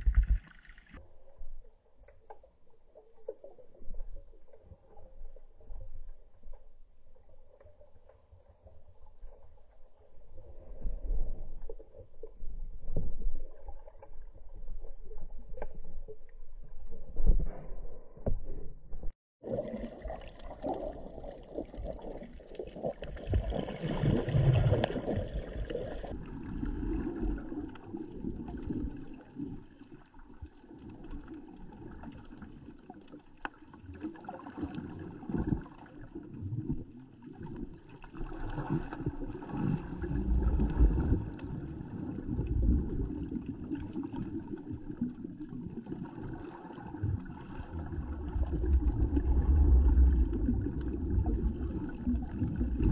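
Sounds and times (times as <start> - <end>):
muffled underwater wash: 0.0 - 52.9.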